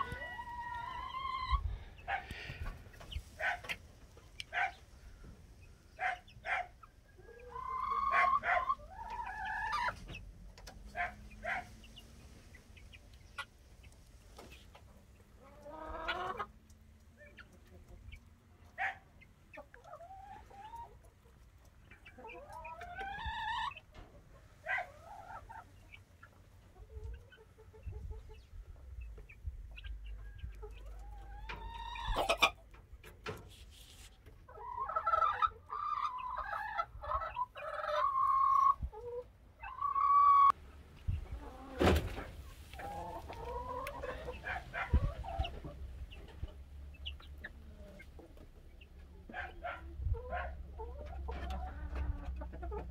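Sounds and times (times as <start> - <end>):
chicks calling and clucking: 0.0 - 52.9.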